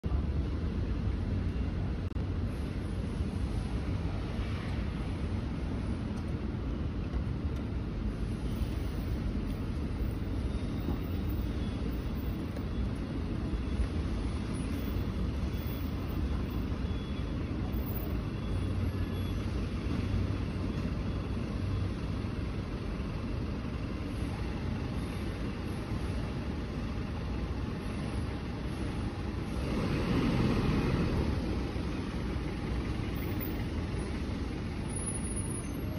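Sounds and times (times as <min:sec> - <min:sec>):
street background rumble: 0:00.0 - 0:35.9.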